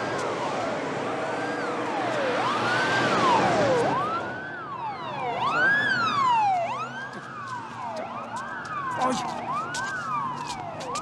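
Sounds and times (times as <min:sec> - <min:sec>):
emergency siren wailing: 0:00.0 - 0:11.0
second siren wailing: 0:00.0 - 0:11.0.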